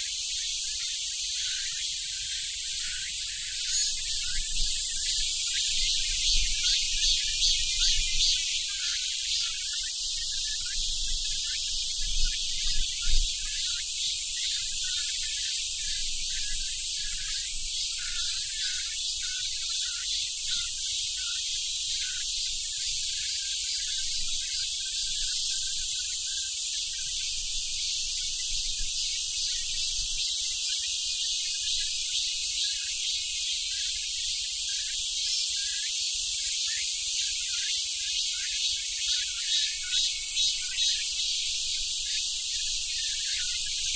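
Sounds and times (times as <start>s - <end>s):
cicadas singing: 0.0s - 43.9s.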